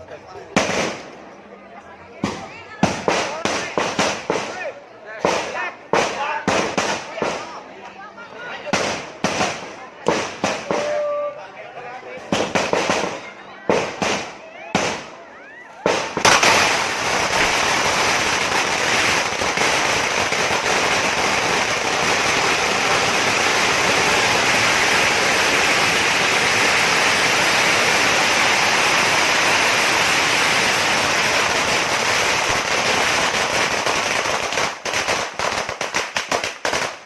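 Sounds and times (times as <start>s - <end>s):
firecrackers crackling and popping: 0.0s - 1.3s, 2.1s - 37.0s.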